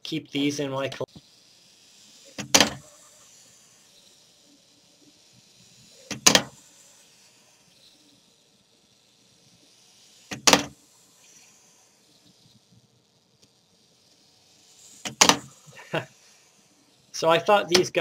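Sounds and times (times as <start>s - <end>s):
clockwork toy whirring: 0.0s - 18.0s
toy landing with sharp clack: 1.1s - 18.0s.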